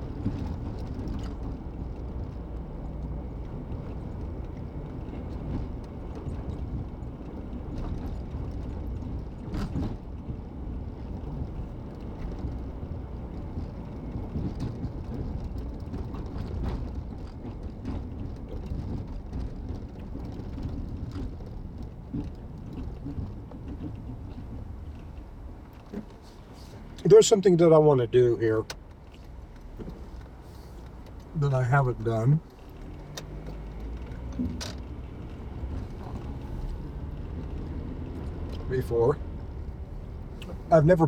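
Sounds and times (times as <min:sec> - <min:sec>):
car cabin road noise: 0:00.0 - 0:41.0.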